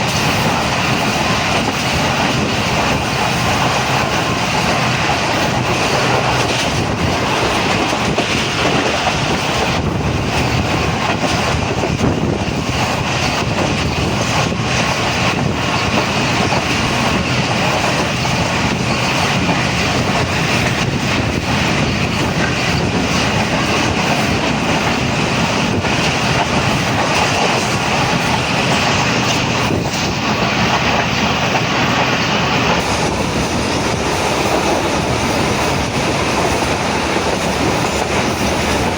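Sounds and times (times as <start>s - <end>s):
rail joint clicks: 0.0s - 38.9s
train wheels rumbling on rail: 0.0s - 38.9s.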